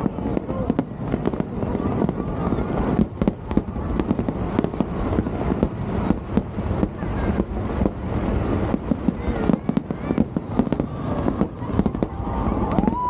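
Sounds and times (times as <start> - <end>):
firework bangs: 0.0 - 13.0
rumble of explosions: 0.0 - 13.0.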